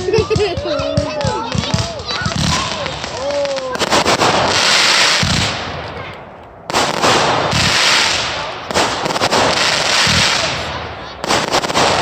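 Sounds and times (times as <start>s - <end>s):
firework bangs: 0.0s - 12.0s
firework crackle: 0.0s - 12.0s.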